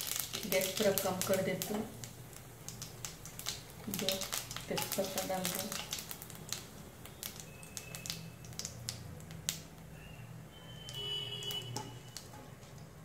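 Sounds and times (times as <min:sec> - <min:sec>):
seeds frying in hot oil: 0:00.0 - 0:13.0.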